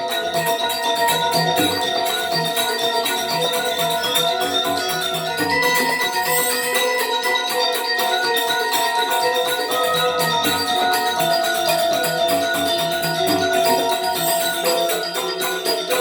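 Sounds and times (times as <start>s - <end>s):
gamelan metallophones and gongs: 0.0s - 16.0s.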